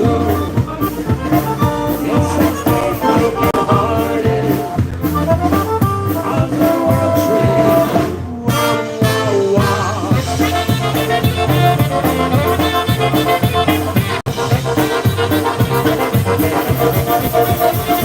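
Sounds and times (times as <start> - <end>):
polka band playing: 0.0 - 18.0.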